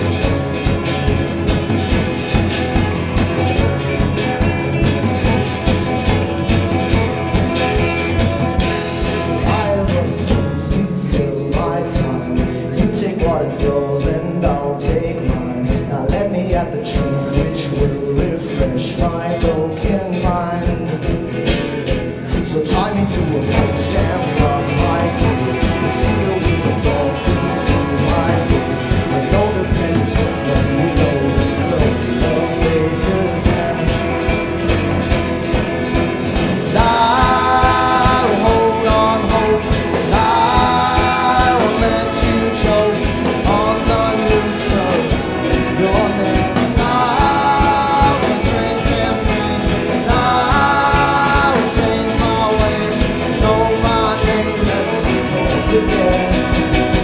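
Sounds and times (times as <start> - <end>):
bright melody above band: 0.0 - 57.0
live folk-rock band playing: 0.0 - 57.0.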